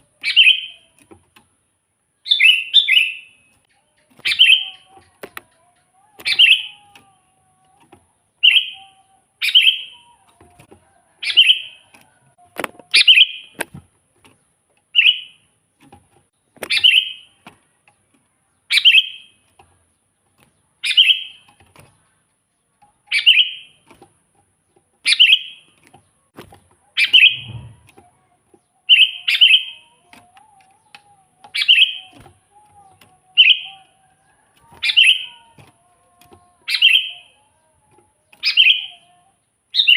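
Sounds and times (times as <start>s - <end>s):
bulbul chirping song: 0.0s - 1.5s, 2.1s - 13.7s, 14.8s - 15.6s, 16.3s - 23.9s, 24.6s - 39.9s.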